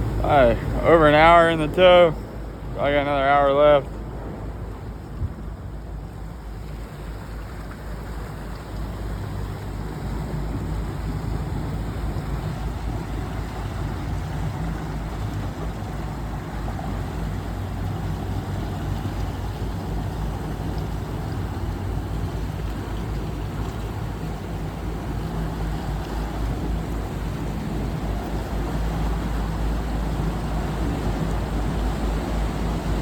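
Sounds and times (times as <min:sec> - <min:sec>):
boat engine drone: 0:00.0 - 0:33.0
rushing water: 0:00.0 - 0:33.0
wind noise: 0:00.0 - 0:33.0.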